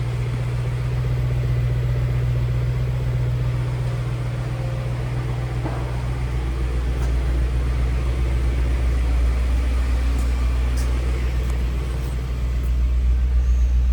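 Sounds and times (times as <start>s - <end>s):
car engine running: 0.0s - 13.9s.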